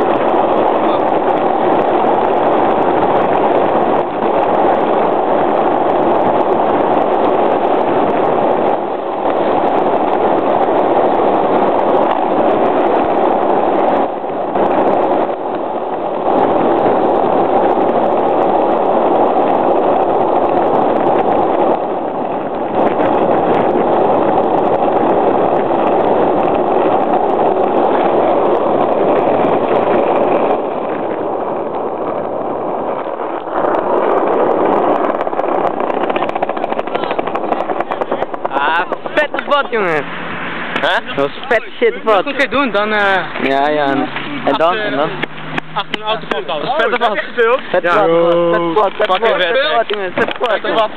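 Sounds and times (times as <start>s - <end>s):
skateboard wheels rolling: 0.0s - 50.9s.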